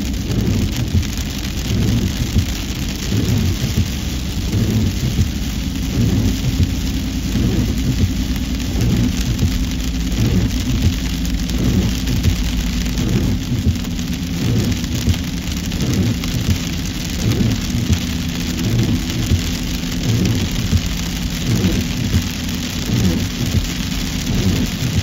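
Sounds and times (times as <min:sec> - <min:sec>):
car engine and tyre rumble: 0:00.0 - 0:25.0
continuous road hiss: 0:00.0 - 0:25.0.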